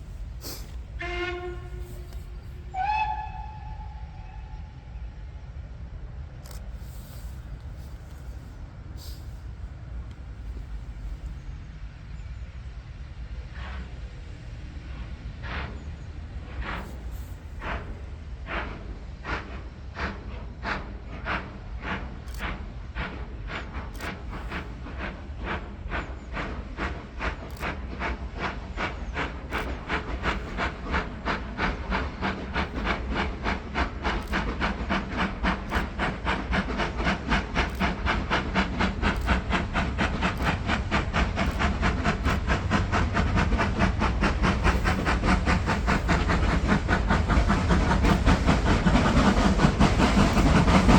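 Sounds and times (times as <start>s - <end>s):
steam locomotive exhaust beats: 0.0s - 50.9s.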